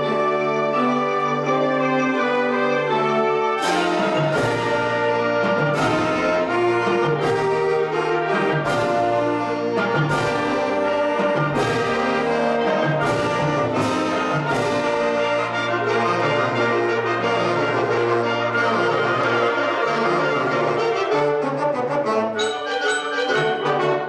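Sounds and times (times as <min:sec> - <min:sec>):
wind band playing: 0:00.0 - 0:24.0.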